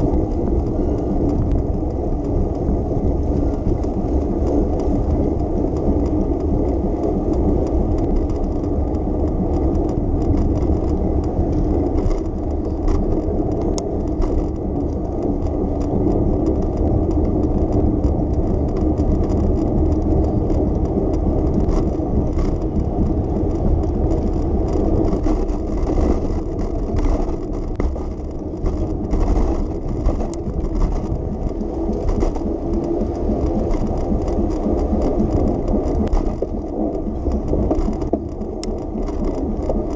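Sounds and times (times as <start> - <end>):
bicycle ride rumble: 0.0 - 39.9
light rattles and clicks: 0.0 - 39.9.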